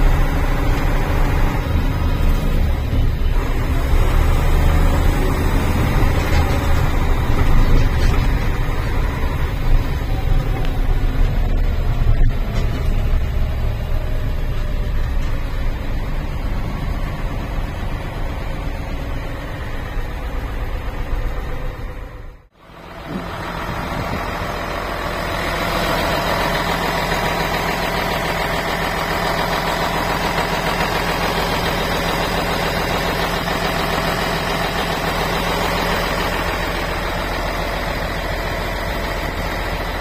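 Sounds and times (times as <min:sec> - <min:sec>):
truck diesel engine running: 0:00.0 - 0:40.0.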